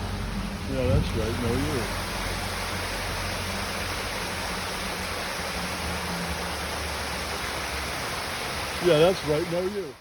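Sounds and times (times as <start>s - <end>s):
brook water rushing: 0.0s - 10.0s.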